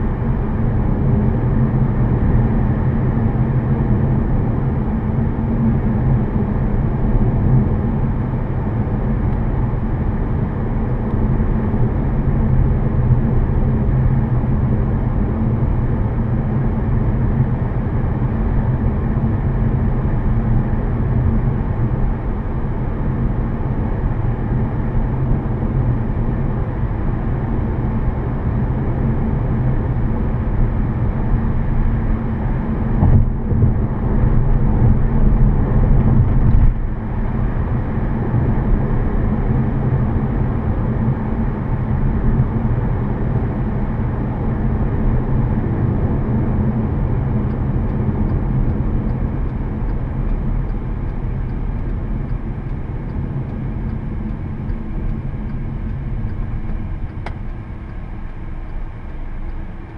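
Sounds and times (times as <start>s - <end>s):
low engine drone: 0.0s - 59.9s.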